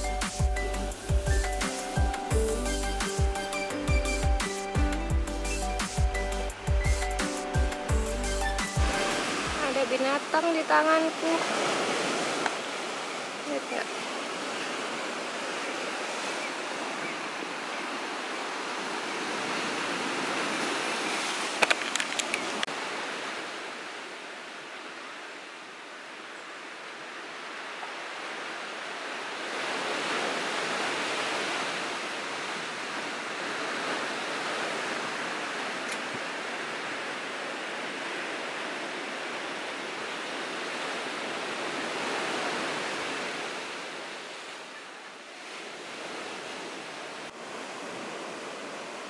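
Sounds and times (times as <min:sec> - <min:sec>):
ocean surf washing: 0:00.0 - 0:49.0.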